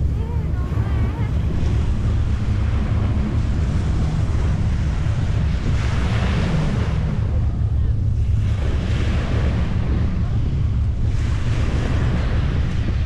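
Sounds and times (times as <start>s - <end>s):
surf hissing on a beach: 0.0s - 13.0s
wind buffeting the microphone: 0.0s - 13.0s.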